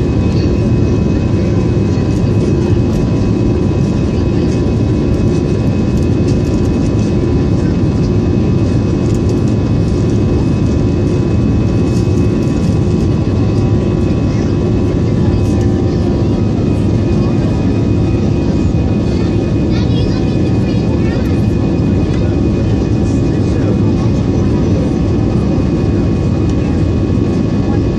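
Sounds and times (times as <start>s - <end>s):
faint engine whines: 0.0s - 27.9s
jet engines rumbling in cabin: 0.0s - 27.9s.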